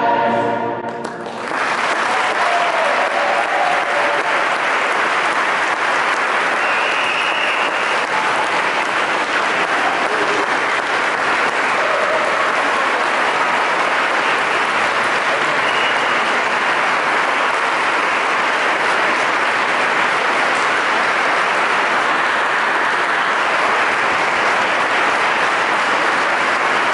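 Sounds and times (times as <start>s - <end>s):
audience applauding: 0.9s - 26.9s.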